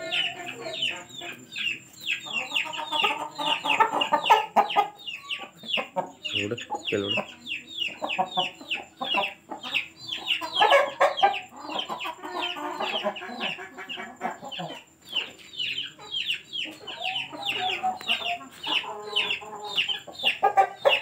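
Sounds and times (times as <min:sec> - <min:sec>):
chickens chirping: 0:00.0 - 0:21.0
chickens clucking: 0:00.0 - 0:21.0.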